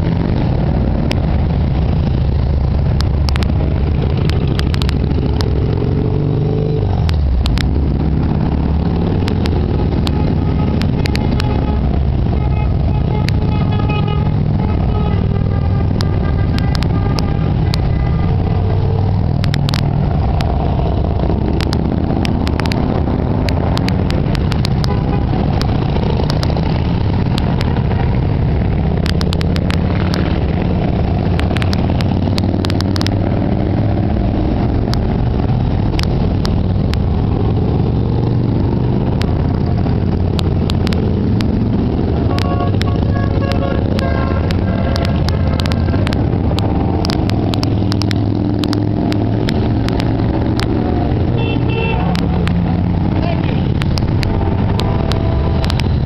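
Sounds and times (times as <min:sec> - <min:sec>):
motorcycles riding past: 0:00.0 - 0:15.4, 0:17.4 - 0:56.0.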